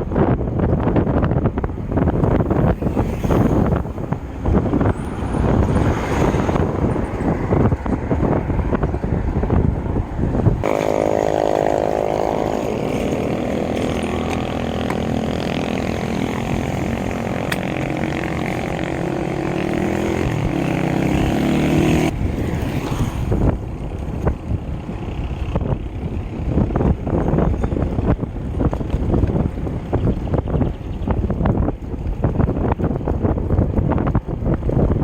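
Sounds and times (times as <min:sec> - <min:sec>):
steady engine hum: 0:00.0 - 0:35.0
wind buffeting microphone: 0:00.0 - 0:35.0.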